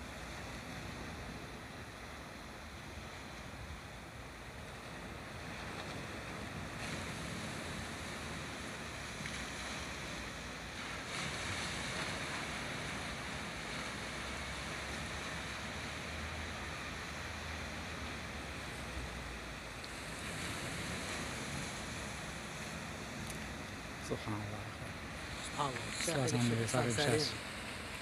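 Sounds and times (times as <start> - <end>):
wind rumble on microphone: 0.0 - 26.2
surf washing over rocks: 0.0 - 28.0.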